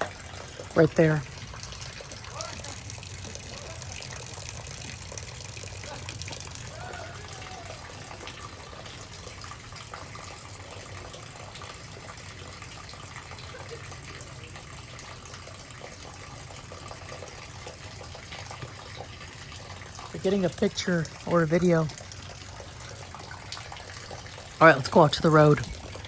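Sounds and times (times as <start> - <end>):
rainwater running off: 0.0 - 26.0.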